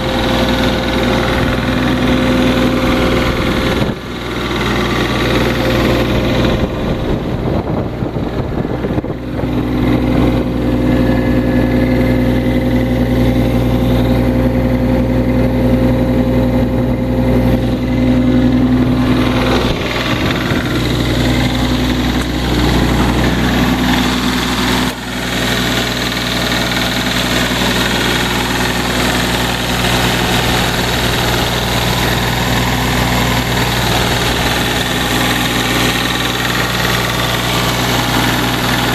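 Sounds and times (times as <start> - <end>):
excavator diesel engine running: 0.0 - 38.9
steady whine: 0.0 - 38.9.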